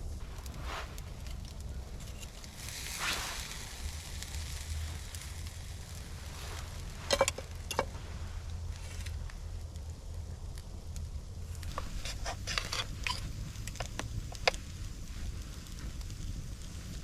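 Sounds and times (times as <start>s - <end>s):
campfire crackling: 0.0s - 17.0s
sharp fire pops: 0.0s - 17.0s
steady low rumble: 0.0s - 17.0s.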